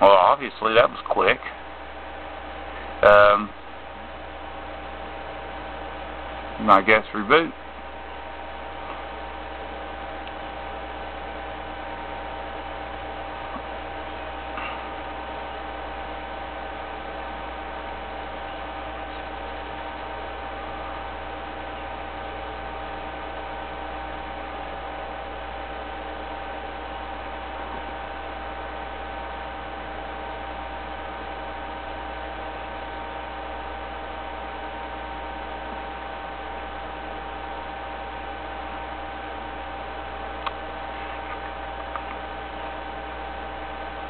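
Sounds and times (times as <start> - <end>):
electrical hum and hiss: 0.0 - 44.0.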